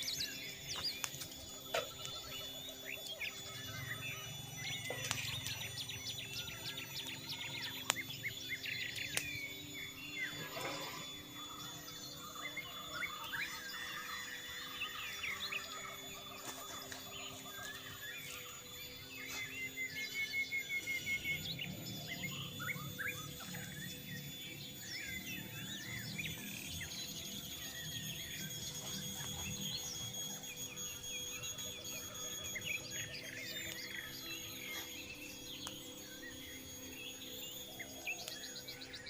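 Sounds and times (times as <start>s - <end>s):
bird trill: 0.0s - 39.0s
forest birds chirping: 0.0s - 39.0s
high insect tones: 0.0s - 39.0s.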